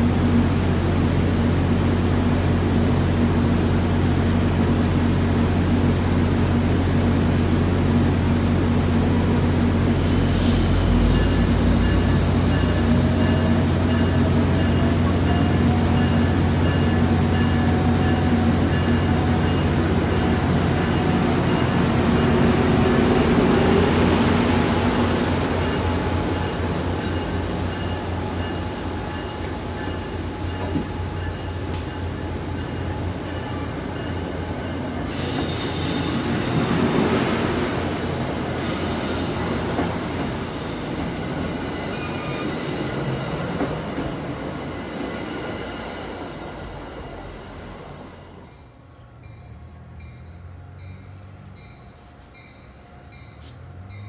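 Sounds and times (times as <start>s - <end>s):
diesel locomotive drone: 0.0s - 54.0s
train coaches rolling on rails: 0.0s - 54.0s.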